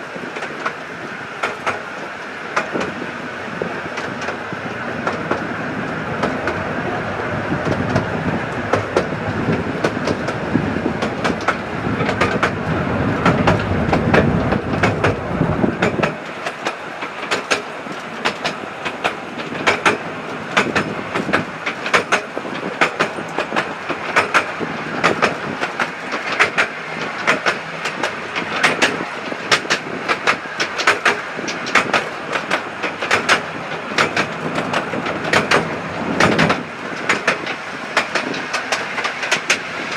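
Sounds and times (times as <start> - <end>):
train wheels rumbling: 0.0 - 39.9
wheels clicking over rail joints: 0.0 - 39.9.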